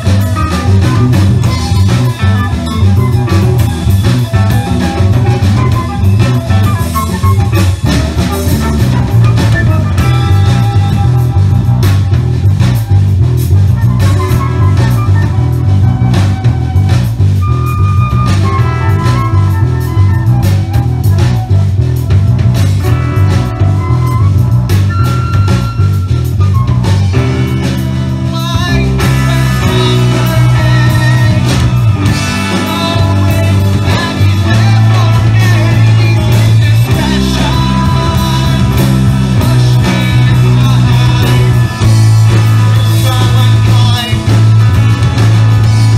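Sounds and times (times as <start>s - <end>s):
bass guitar: 0.0s - 45.9s
drum kit: 0.0s - 45.9s
electric guitar: 0.0s - 45.9s
flute melody: 0.0s - 45.9s
keyboards: 0.0s - 45.9s.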